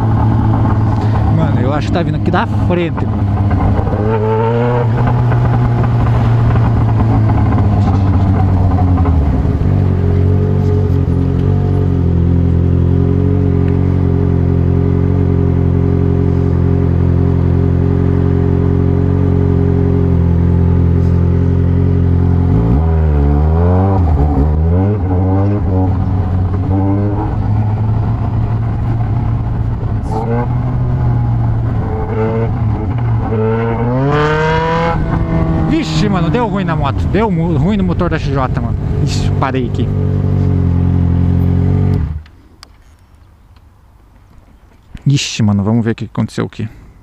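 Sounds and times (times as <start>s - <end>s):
motorcycle engine running: 0.0s - 42.3s.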